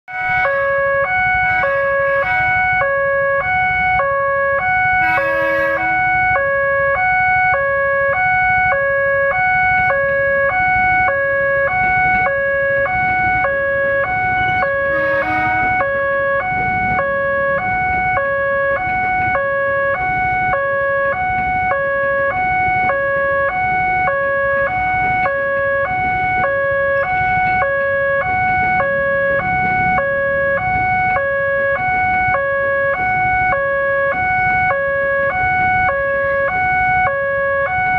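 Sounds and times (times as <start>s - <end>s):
low rumble of traffic: 0.1s - 37.9s
two-tone crossing alarm: 0.1s - 37.9s.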